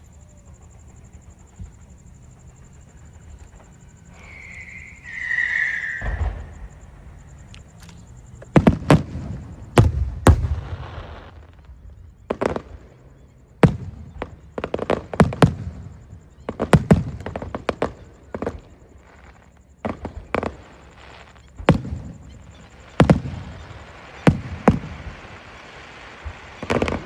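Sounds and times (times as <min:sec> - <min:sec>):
fireworks bursting with bangs: 0:00.0 - 0:13.0, 0:13.6 - 0:27.0.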